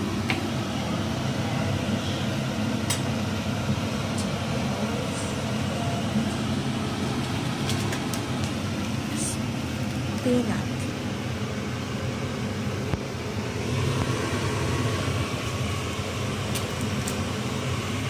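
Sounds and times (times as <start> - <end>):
range hood fan whirring: 0.0 - 18.0.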